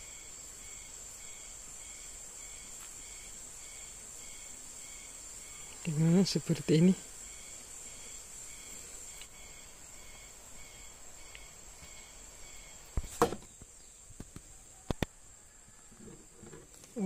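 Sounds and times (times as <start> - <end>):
crickets chirping drone: 0.0 - 16.7.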